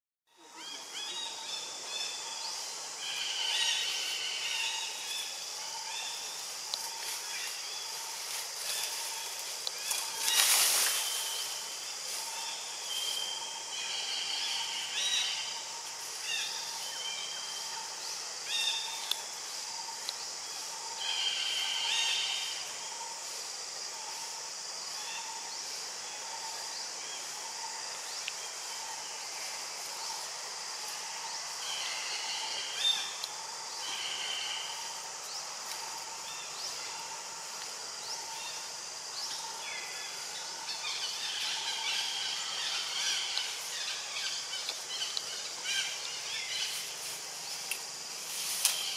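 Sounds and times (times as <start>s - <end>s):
steady high hiss: 0.4s - 48.9s.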